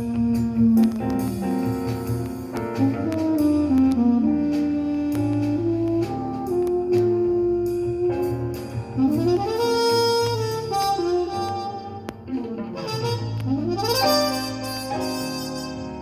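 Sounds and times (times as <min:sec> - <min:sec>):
bass line: 0:00.0 - 0:16.0
melody instrument long held notes: 0:00.0 - 0:16.0.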